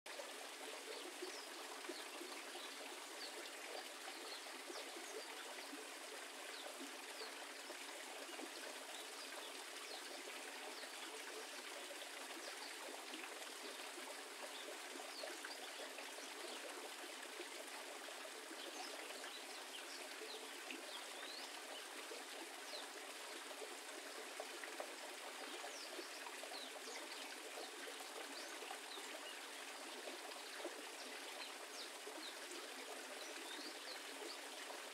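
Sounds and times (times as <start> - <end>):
water trickling and splashing: 0.1 - 34.9.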